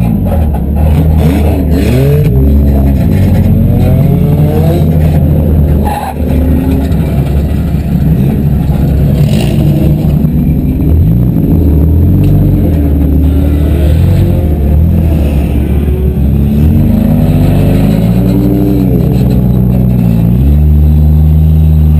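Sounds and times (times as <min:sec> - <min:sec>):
car engines revving: 0:00.0 - 0:21.9.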